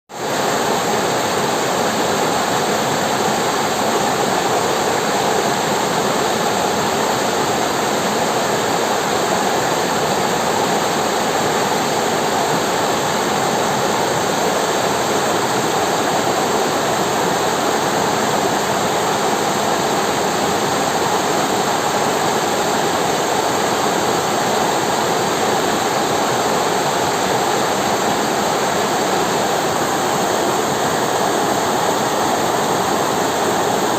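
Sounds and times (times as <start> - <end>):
river water rushing over rocks: 0.2 - 33.9.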